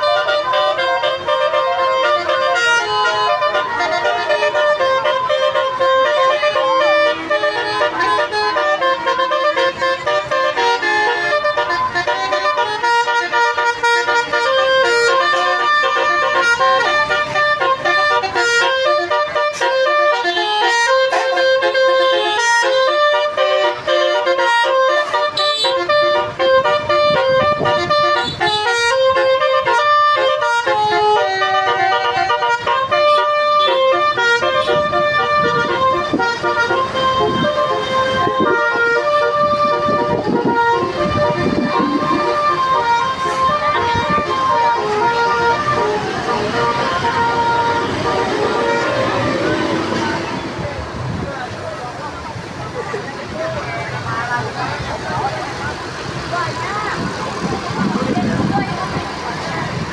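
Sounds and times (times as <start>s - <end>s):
multi-tone bus air horn tune: 0.0s - 51.2s
bus engine rumbling: 0.0s - 59.9s.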